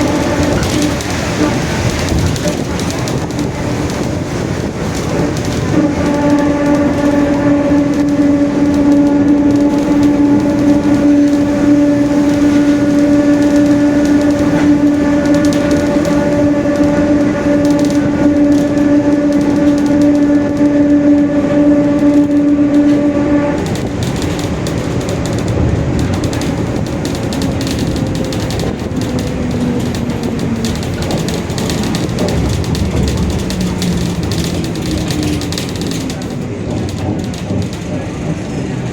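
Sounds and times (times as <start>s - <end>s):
bus engine: 0.0s - 38.9s
road noise: 0.0s - 38.9s.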